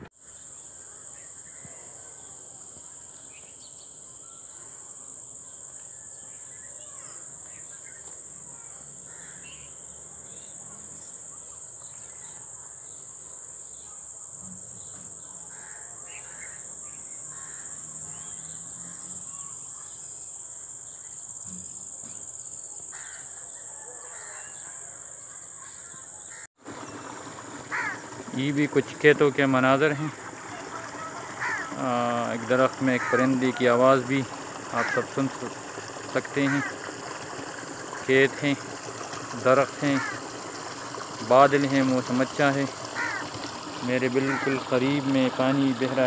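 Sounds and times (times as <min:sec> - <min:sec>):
high-pitched insect chorus: 0:00.1 - 0:46.0.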